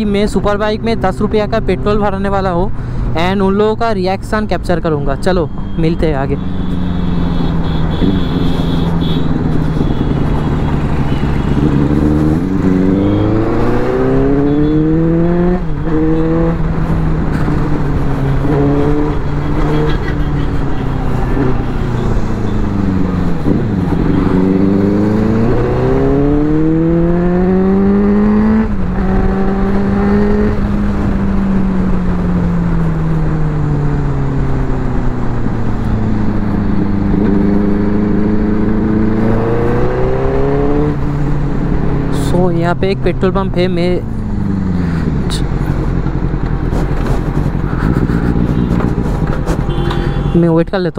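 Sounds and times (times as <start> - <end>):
motorcycle engine accelerating: 6.4 - 50.3.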